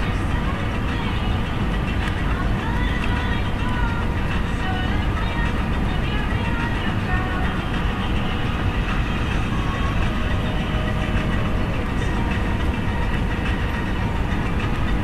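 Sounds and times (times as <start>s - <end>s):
airplane cabin low rumble: 0.0s - 15.0s.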